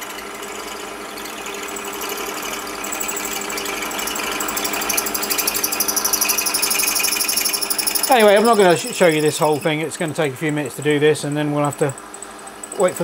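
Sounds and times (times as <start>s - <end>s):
drill cutting metal chatter: 0.0s - 13.0s
lathe motor tone: 0.0s - 13.0s.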